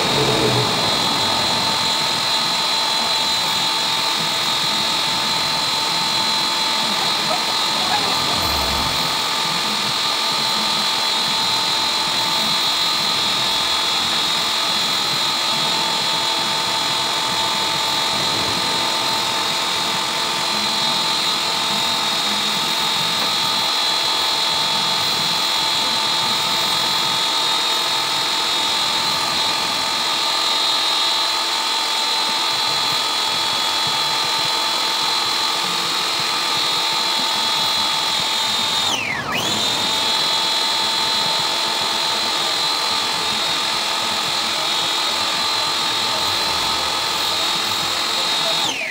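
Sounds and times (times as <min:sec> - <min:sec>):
pressure washer whine: 0:00.0 - 0:48.9.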